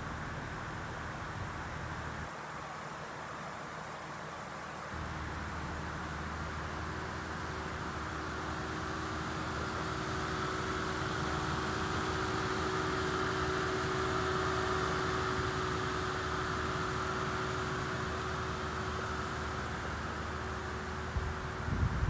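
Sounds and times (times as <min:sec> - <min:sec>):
minivan engine idling: 0:00.0 - 0:22.0.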